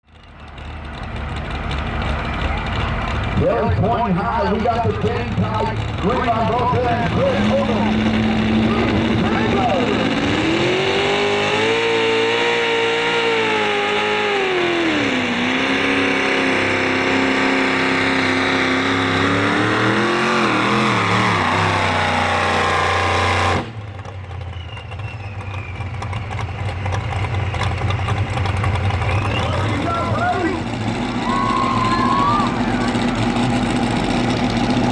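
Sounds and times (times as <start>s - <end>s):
tractor engine under load: 0.0s - 34.9s.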